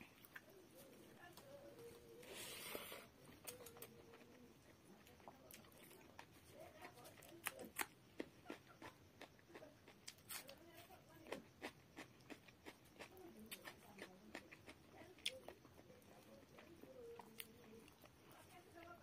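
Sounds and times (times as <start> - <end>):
chewing: 0.0 - 19.0.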